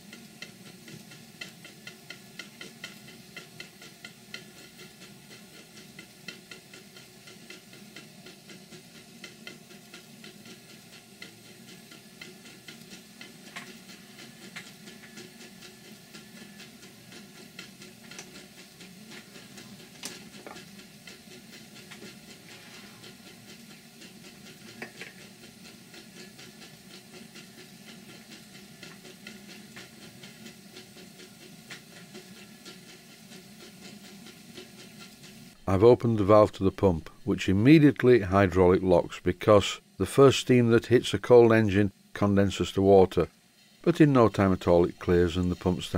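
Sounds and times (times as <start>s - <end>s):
model steam engine ticking: 0.0s - 45.9s
steam hissing: 0.0s - 45.9s.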